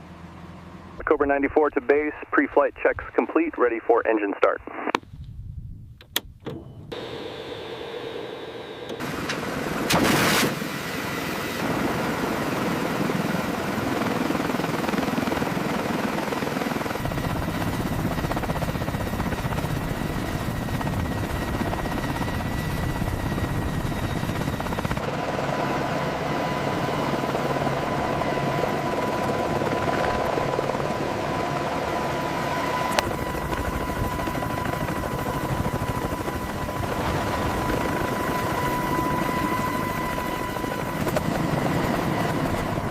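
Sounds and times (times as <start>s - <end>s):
helicopter turbine whine and rotor: 6.6s - 42.9s.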